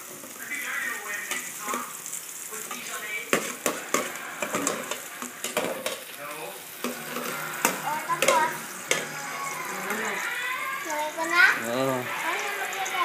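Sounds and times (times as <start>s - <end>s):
onion sizzling in pot: 0.0s - 13.0s.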